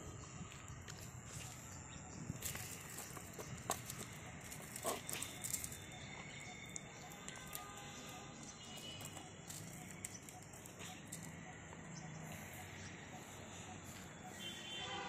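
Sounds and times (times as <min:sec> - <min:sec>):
bird calls: 0:00.1 - 0:14.8.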